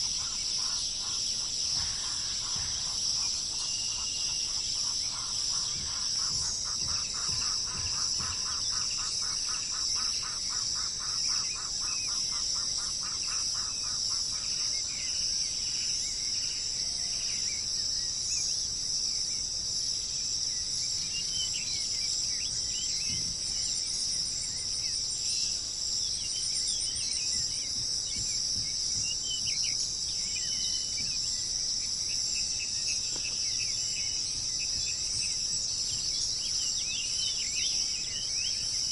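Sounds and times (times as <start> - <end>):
birds chirping and trilling: 0.0 - 38.9
high-pitched insect chorus: 0.0 - 38.9.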